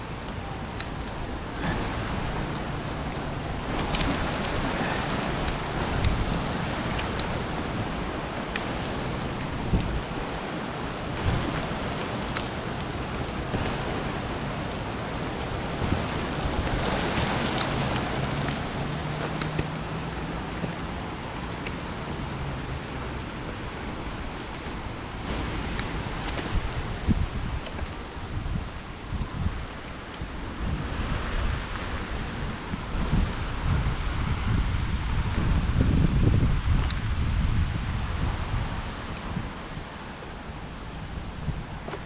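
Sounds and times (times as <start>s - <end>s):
rain on hard surfaces: 0.0s - 42.0s.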